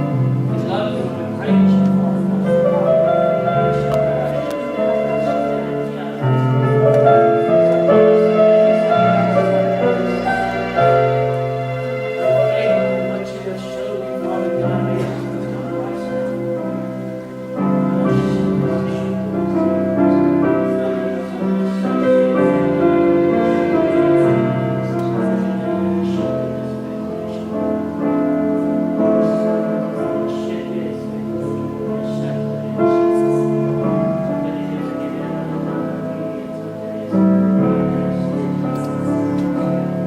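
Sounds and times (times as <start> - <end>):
slow keyboard music: 0.0 - 40.0.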